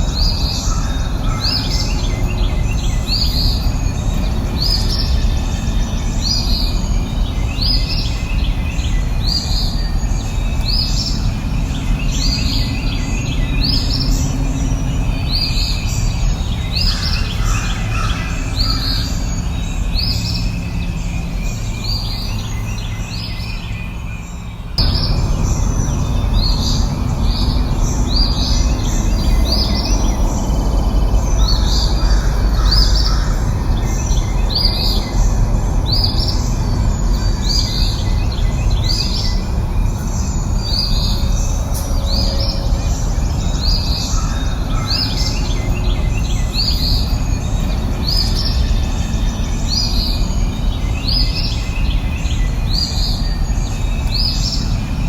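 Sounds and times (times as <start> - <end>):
bird chirping call: 0.0 - 55.0
low rushing background: 0.0 - 55.0.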